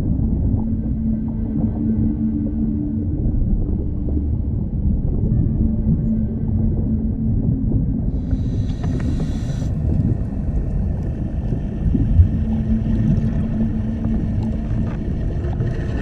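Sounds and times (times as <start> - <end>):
faint hum: 0.0 - 16.0
low underwater rumble: 0.0 - 16.0.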